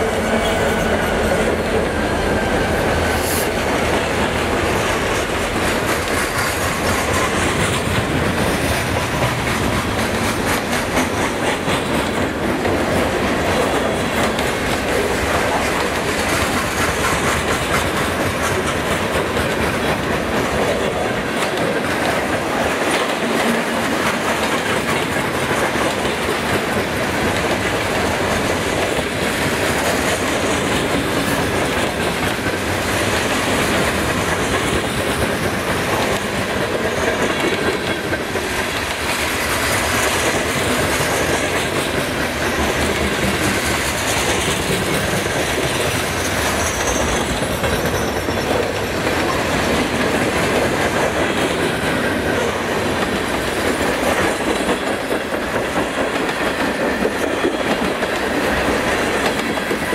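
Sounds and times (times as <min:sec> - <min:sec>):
train wheels rumbling on rail: 0:00.0 - 0:59.9
wheels clicking over rail joints: 0:01.3 - 0:59.9.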